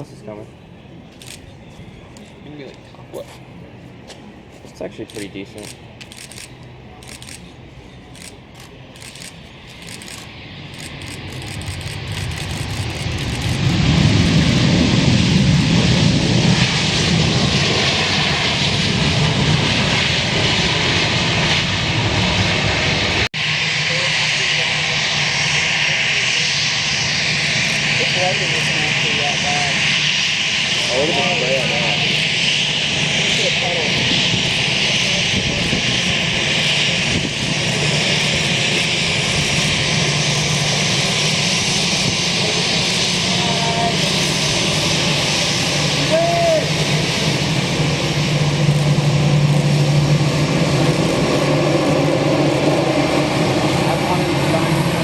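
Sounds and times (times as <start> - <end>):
jet airliner engines roaring: 0.0 - 55.0.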